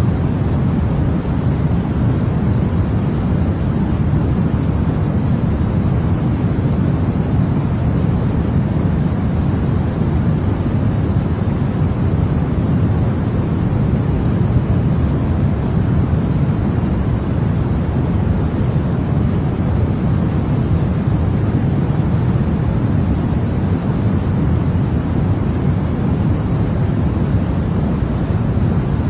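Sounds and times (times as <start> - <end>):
deep white noise rushing: 0.0 - 29.0.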